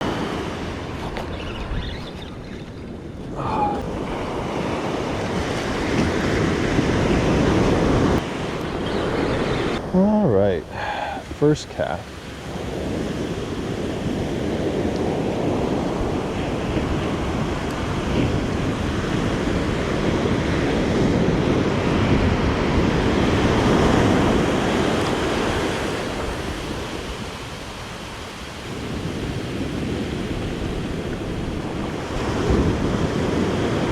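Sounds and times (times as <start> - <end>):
wind on microphone: 0.0 - 11.3, 12.3 - 33.9
ocean surf washing onto beach: 0.0 - 33.9.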